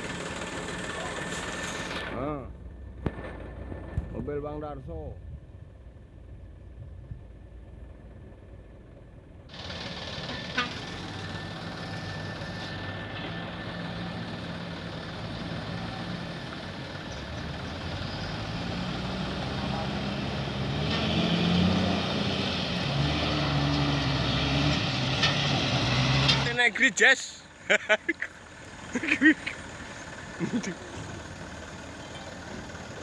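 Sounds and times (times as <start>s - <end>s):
diesel truck engines under load: 0.0s - 33.0s.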